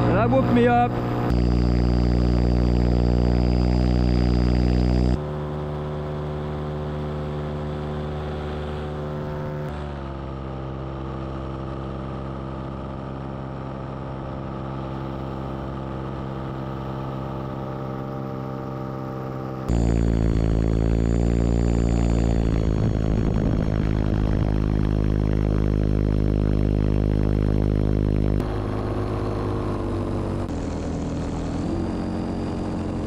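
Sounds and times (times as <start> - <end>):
paramotor engine and propeller: 0.0 - 33.0.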